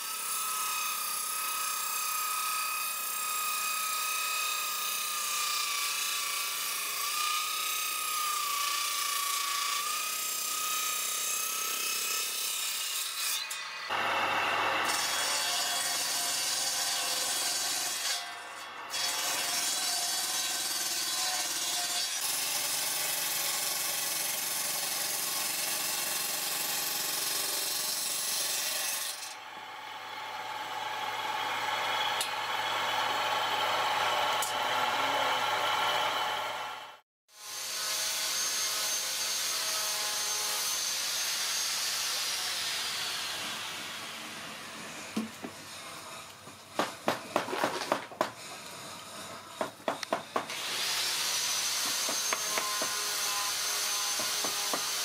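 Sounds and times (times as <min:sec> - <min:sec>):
table saw cutting wood: 0:00.0 - 0:55.0.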